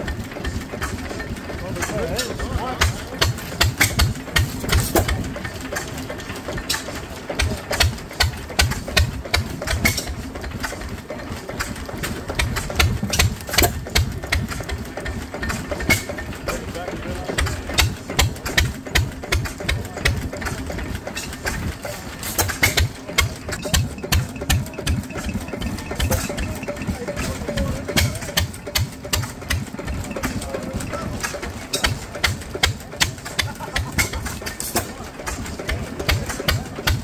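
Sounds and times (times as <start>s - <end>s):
piston pump rhythmic thump: 0.0s - 37.0s.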